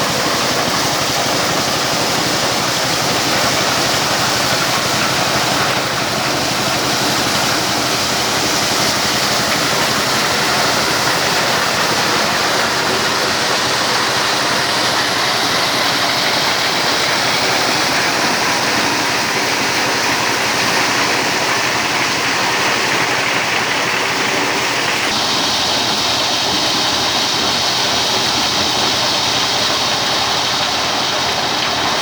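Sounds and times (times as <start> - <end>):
corn sheller rushing: 0.0 - 32.0
diesel engine running: 0.0 - 32.0.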